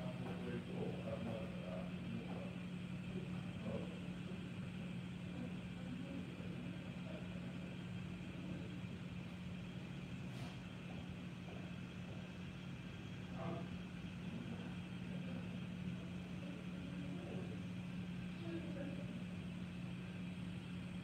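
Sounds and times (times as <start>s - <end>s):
faint indistinct murmurs: 0.0s - 21.0s
steady low hum: 0.0s - 21.0s.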